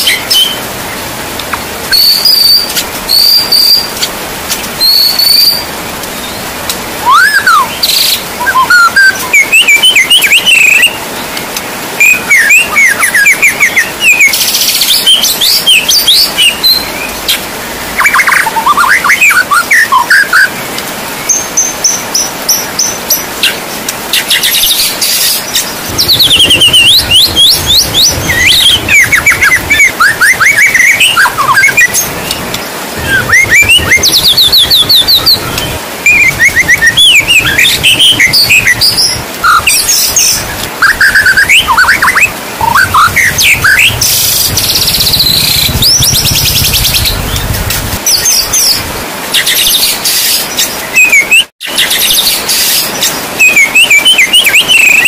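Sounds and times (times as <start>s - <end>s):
songbird whistling and trilling: 0.0s - 0.6s, 1.9s - 4.0s, 4.8s - 6.4s, 7.0s - 11.0s, 12.0s - 17.4s, 18.0s - 20.5s, 21.2s - 32.4s, 33.0s - 55.0s
rain hiss: 0.0s - 51.0s, 51.8s - 53.6s.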